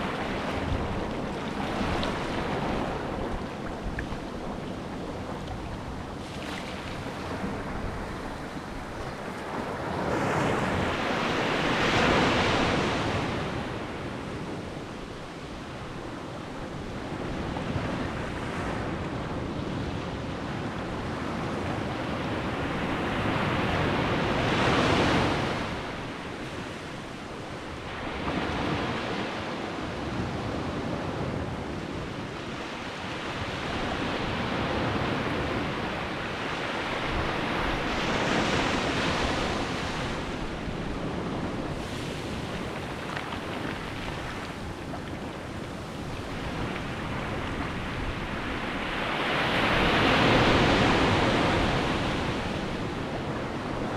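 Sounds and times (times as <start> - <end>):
sea waves breaking on beach: 0.0 - 53.9.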